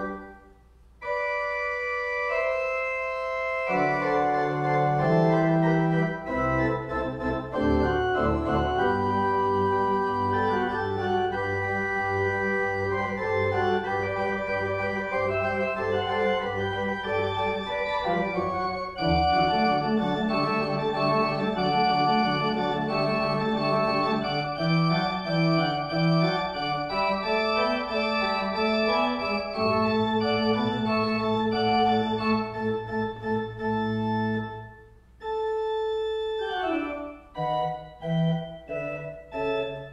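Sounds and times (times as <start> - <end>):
pipe organ playing slow chords: 0.0 - 39.9.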